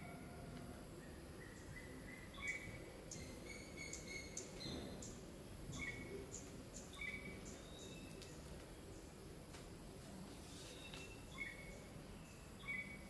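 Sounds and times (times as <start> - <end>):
low background hiss: 0.0 - 13.0
birds chirping faintly: 0.9 - 9.5, 10.2 - 13.0.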